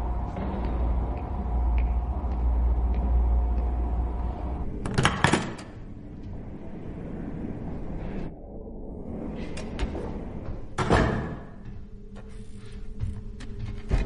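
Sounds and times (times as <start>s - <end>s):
low rumble with faint hum: 0.0s - 14.0s.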